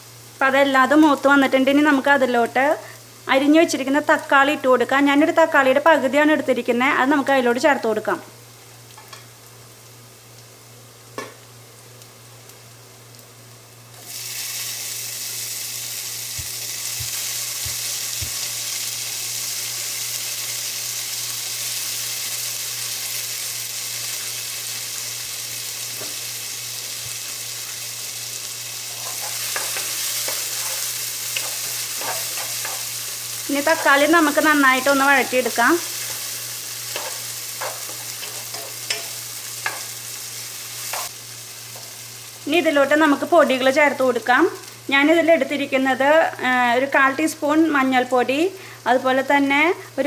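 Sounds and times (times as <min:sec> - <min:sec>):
tomato sizzling in hot oil: 0:00.0 - 0:50.0.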